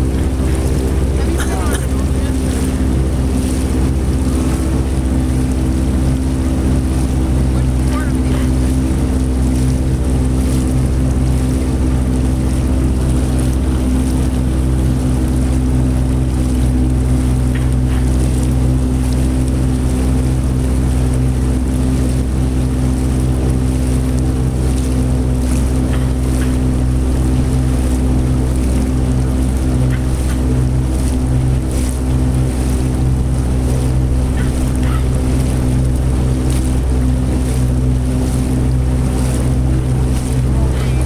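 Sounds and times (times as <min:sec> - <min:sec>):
hiss of water and wind: 0:00.0 - 0:41.0
outboard motor humming: 0:00.0 - 0:41.0.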